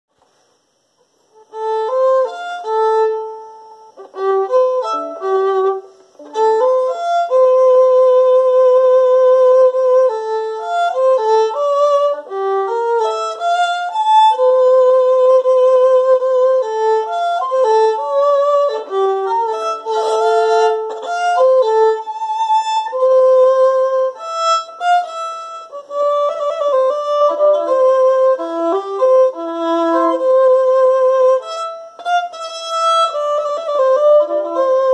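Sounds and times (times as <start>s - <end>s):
solo violin melody: 1.0s - 34.9s.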